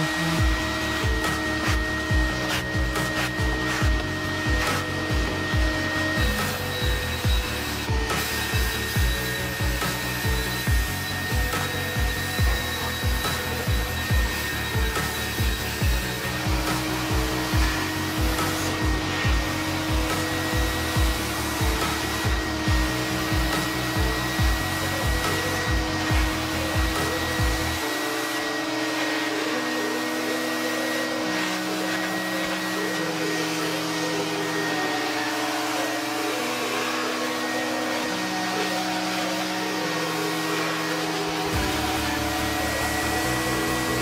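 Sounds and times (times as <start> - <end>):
background music with beat: 0.0 - 44.0
carpet extractor running: 0.0 - 44.0
thin high whine: 0.0 - 44.0.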